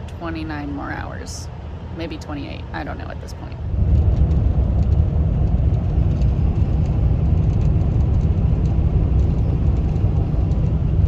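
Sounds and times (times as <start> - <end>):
road and wind noise rumble: 0.0 - 11.0.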